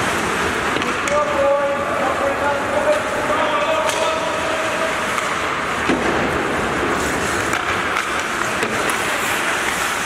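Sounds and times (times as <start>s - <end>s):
skate blades on ice: 0.0s - 10.0s
arena echo: 0.8s - 9.1s.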